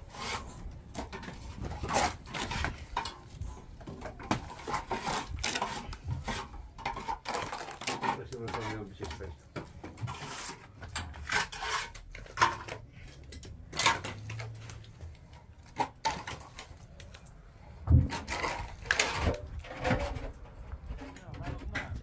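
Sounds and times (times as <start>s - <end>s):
objects knocking and clattering: 0.8s - 22.0s.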